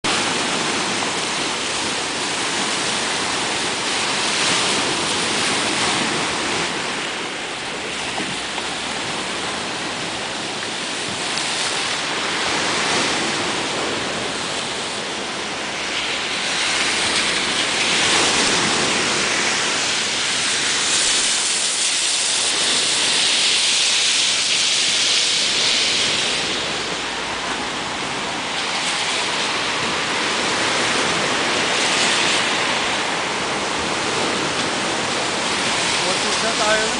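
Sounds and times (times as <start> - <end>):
sea waves breaking on shore: 0.0 - 36.9.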